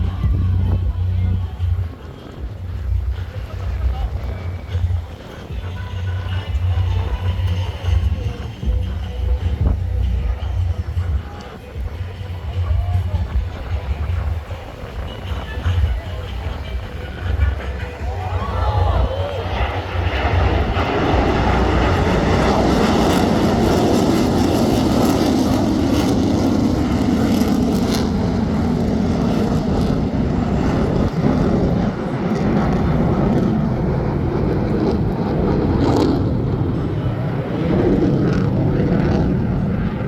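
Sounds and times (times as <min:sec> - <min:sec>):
jet engine noise: 0:00.0 - 0:40.0.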